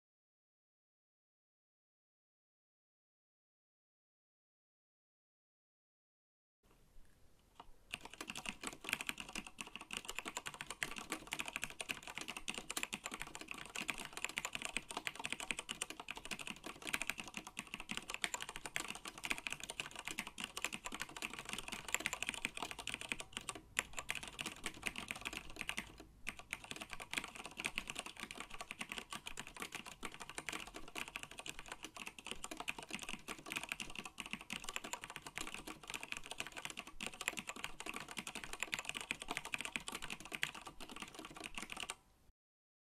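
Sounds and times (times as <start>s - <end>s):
mechanical keyboard typing: 7.6s - 42.0s.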